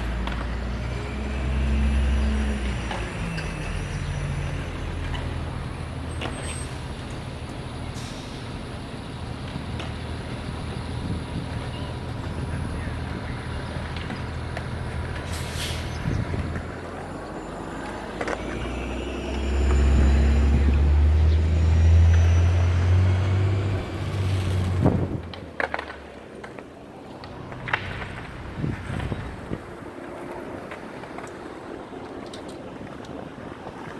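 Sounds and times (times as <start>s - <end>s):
heavy vehicle engine rumbling: 0.0s - 33.3s
street traffic: 0.0s - 33.9s.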